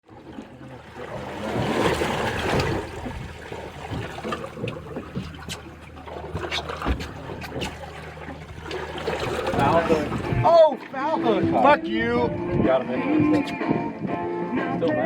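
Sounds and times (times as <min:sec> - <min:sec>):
water splashing and trickling: 0:00.0 - 0:13.5
low engine hum: 0:00.1 - 0:12.6.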